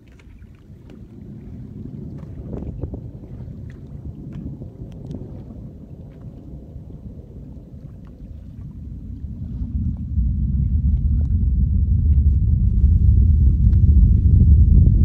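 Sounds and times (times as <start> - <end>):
distant rocket engine rumble: 1.0 - 15.0.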